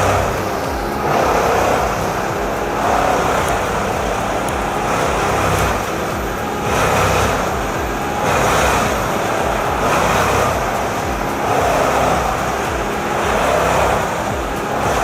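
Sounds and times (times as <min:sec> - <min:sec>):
wood chipper chipping logs: 0:00.0 - 0:15.0.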